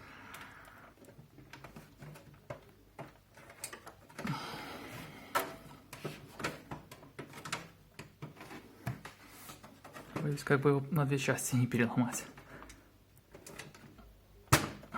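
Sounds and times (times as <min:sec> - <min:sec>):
plastic clips clicking and creaking: 0:00.0 - 0:04.4, 0:05.3 - 0:10.6, 0:12.1 - 0:14.9.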